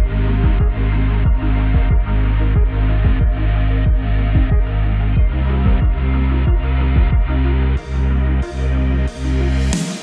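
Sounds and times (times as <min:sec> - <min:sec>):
electronic chillout music: 0:00.0 - 0:10.0.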